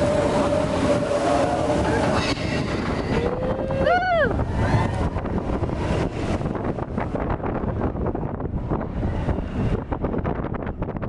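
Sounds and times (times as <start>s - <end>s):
roller coaster rumbling on track: 0.0s - 11.0s
wind buffeting microphone: 0.0s - 11.0s.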